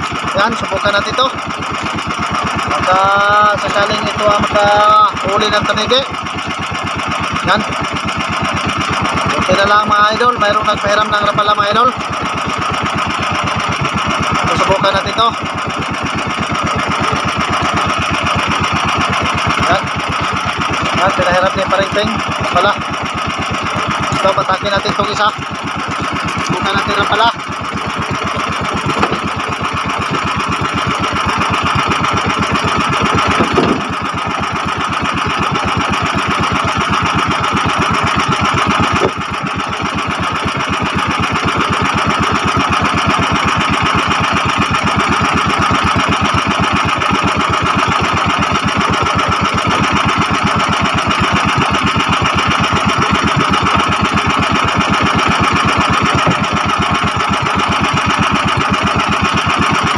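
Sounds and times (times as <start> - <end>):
small boat engine puttering: 0.0 - 59.9.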